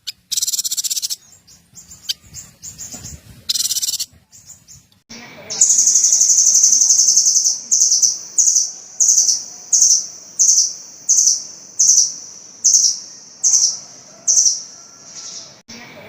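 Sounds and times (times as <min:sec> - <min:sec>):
songbird high-pitched trill: 0:00.0 - 0:04.9, 0:05.5 - 0:15.6.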